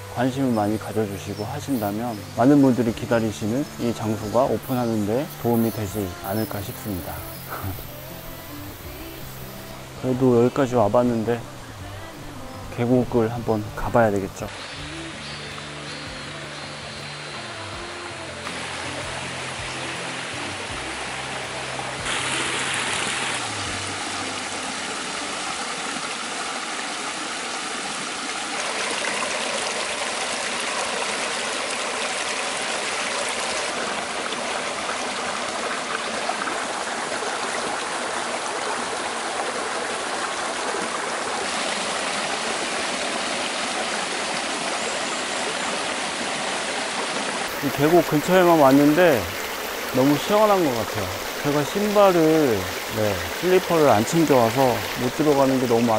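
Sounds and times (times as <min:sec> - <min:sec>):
stream rushing over boulders: 0:00.0 - 0:55.9.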